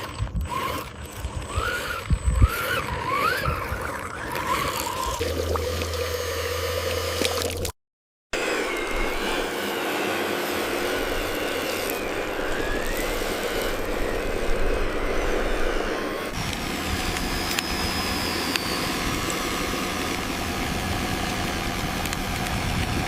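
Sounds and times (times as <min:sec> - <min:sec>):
model construction machinery running: 0:00.0 - 0:07.7, 0:08.4 - 0:23.0.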